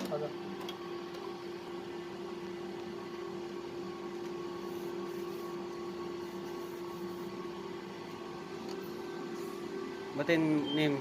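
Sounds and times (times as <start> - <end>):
faint high whirring: 0.0 - 11.0
machine hum with constant tone: 0.0 - 11.0.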